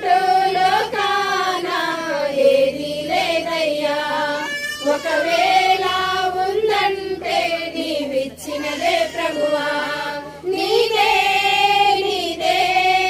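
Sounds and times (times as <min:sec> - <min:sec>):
women singing a hymn: 0:00.0 - 0:13.0.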